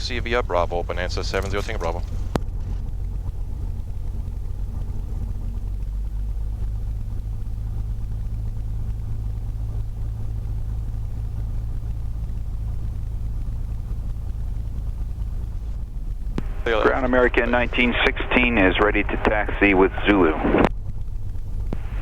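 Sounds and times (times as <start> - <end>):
aircraft piston engine droning: 0.0 - 22.0.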